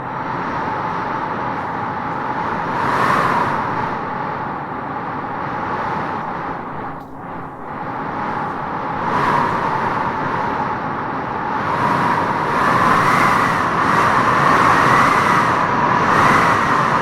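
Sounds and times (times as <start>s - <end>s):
wind howling through trees: 0.0s - 17.0s.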